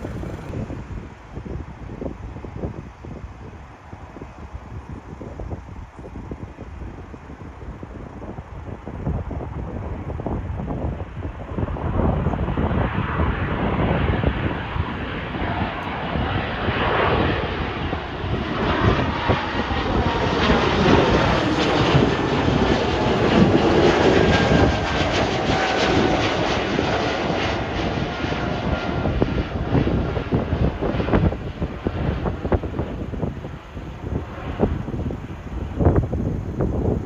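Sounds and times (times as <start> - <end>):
jet airliner engines passing: 0.0 - 37.0.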